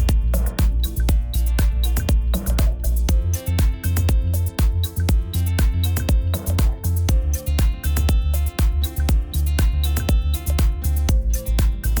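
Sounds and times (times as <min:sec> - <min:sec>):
electronic dance music: 0:00.0 - 0:12.0
heavy bass line: 0:00.0 - 0:12.0.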